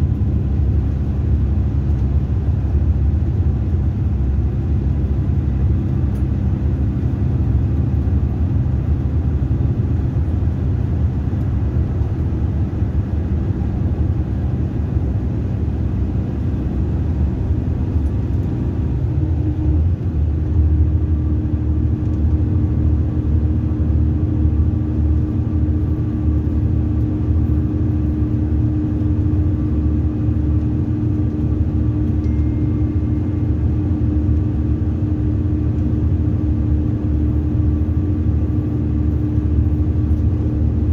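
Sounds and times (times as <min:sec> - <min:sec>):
coach engine and road rumble: 0:00.0 - 0:40.9.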